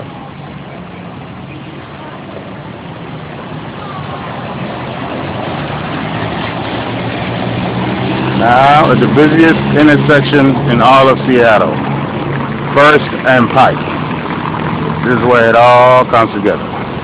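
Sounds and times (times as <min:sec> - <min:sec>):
vehicle engines humming: 0:00.0 - 0:17.0
voices of passers-by: 0:00.0 - 0:17.0.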